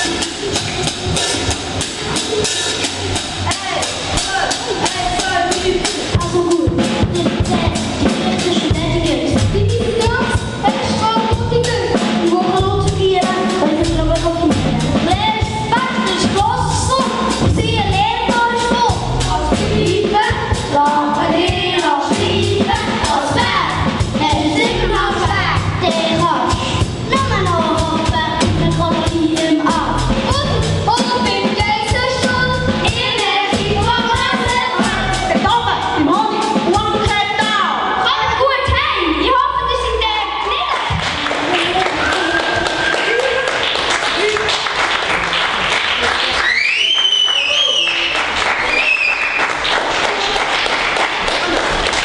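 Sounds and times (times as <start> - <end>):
steady drum beat: 0.0 - 46.3.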